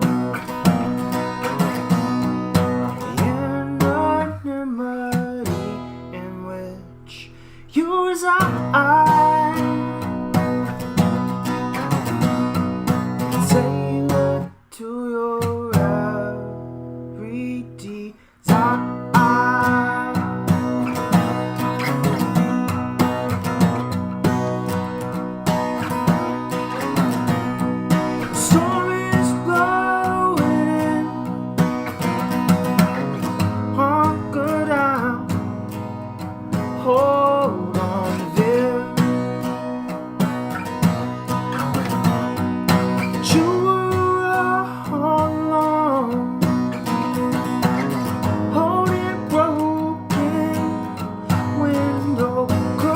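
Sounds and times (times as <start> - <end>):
acoustic guitar blues: 0.0 - 52.9.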